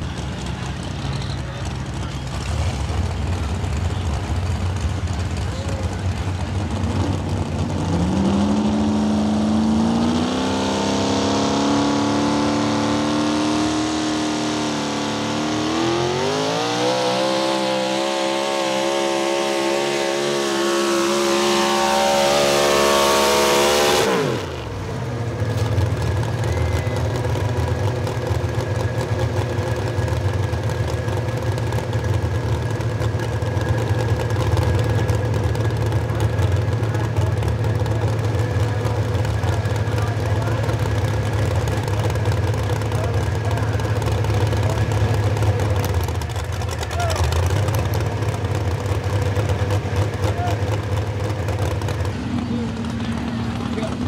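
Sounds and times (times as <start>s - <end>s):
truck engine revving under load: 0.0s - 54.0s.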